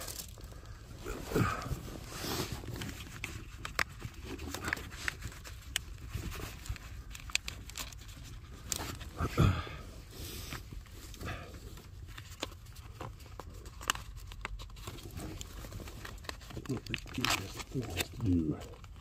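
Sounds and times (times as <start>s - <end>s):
pipe lagging rustling and crinkling: 0.0s - 19.0s.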